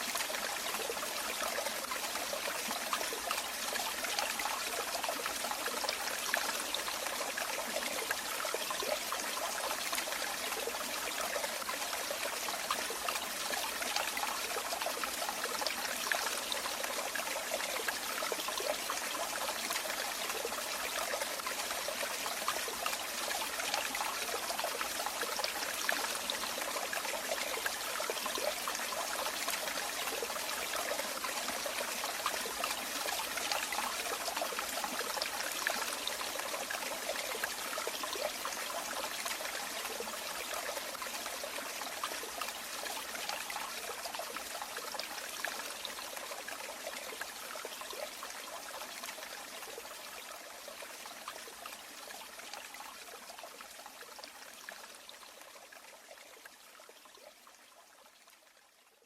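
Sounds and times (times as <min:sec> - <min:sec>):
stream trickling and bubbling: 0:00.0 - 0:59.0.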